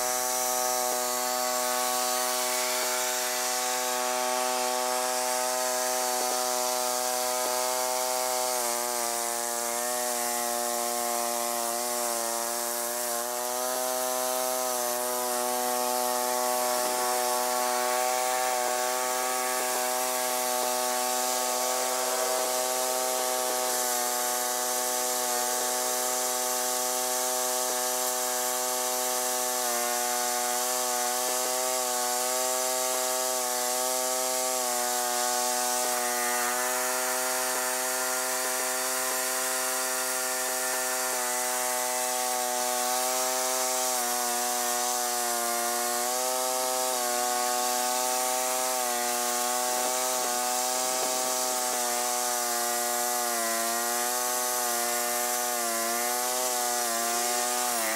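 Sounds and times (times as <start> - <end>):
garden tractor engine under load: 0.0 - 57.9.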